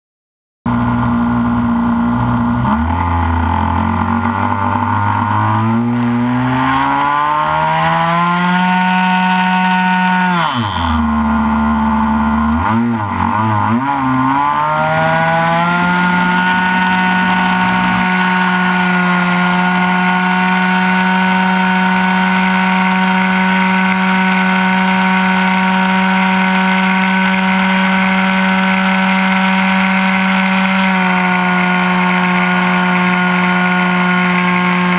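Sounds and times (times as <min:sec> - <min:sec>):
model plane engine revving: 0:02.6 - 0:34.9.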